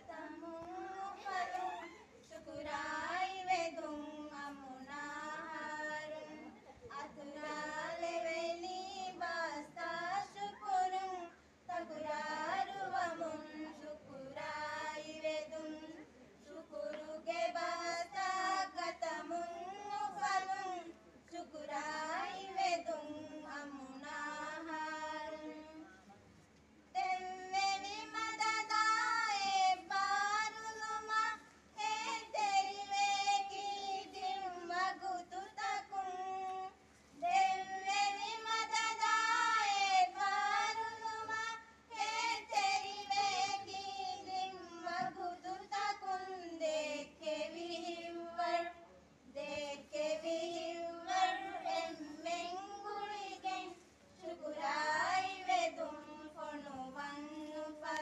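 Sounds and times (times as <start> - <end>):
group of women singing: 0.0 - 26.0, 26.9 - 58.0.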